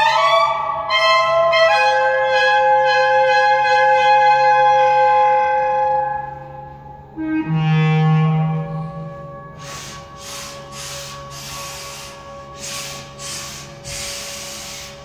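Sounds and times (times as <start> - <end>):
clarinet and basset horn notes: 0.0 - 14.8.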